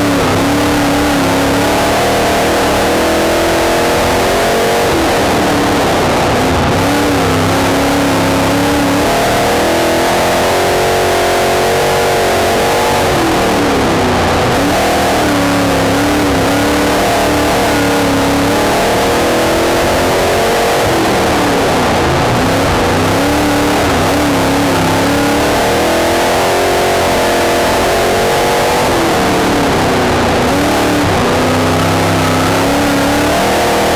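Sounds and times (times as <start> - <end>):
race car engine revving: 0.0 - 33.9.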